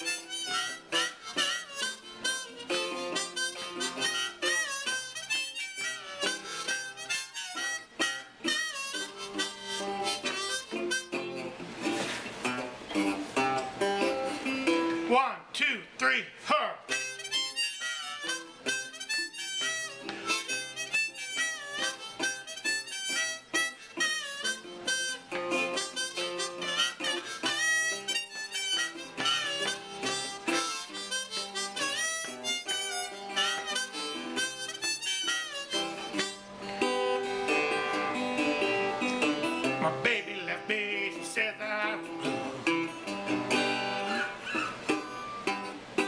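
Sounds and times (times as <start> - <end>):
blues harmonica solo: 0.0 - 15.1, 16.9 - 46.0
fingerpicked resonator guitar: 0.0 - 15.1, 16.9 - 46.0.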